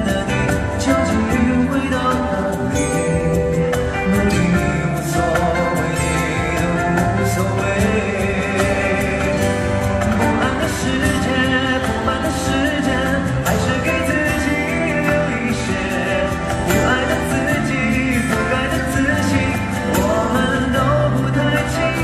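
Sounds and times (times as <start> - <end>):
band with drums: 0.0 - 22.0
man singing pop song: 0.0 - 22.0.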